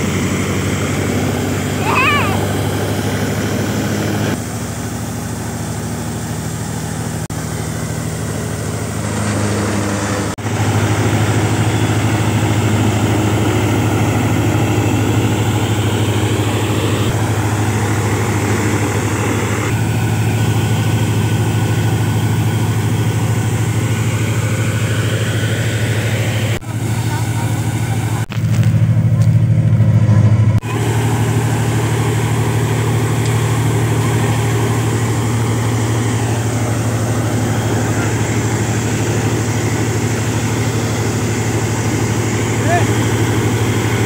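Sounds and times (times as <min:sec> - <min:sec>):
threshing machine engine drone: 0:00.0 - 0:44.0.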